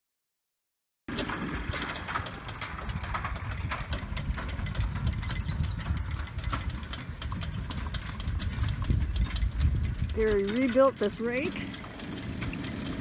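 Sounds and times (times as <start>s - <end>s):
hay rake clattering: 1.1s - 13.0s
utility vehicle engine running: 1.1s - 13.0s.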